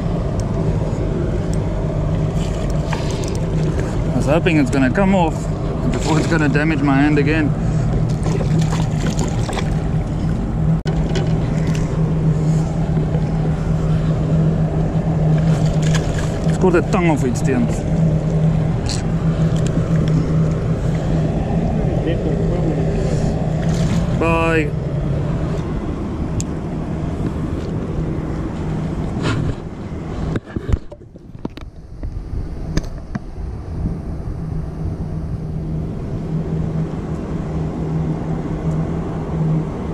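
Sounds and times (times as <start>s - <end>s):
boat motor humming: 0.0s - 39.9s
wind on microphone: 0.0s - 39.9s.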